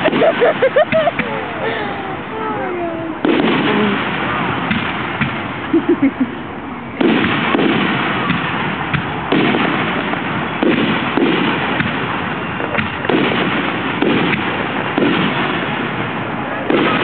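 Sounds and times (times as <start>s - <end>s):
firework bangs: 0.0s - 17.0s
fireworks crackling and rumbling: 0.0s - 17.0s.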